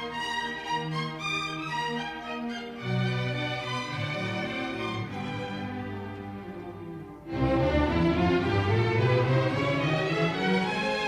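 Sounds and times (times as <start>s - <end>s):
string quartet playing: 0.0s - 11.0s.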